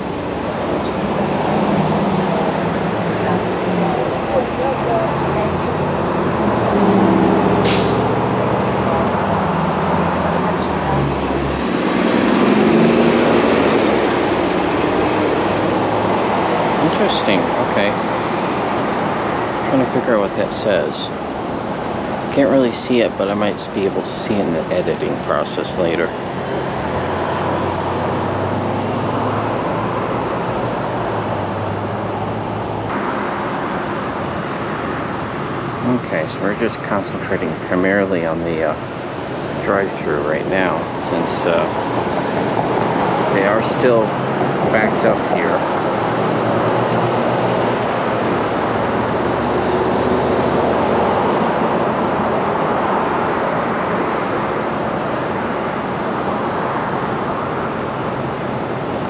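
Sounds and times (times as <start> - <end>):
car engines running: 0.0 - 59.0
road traffic: 0.0 - 59.0.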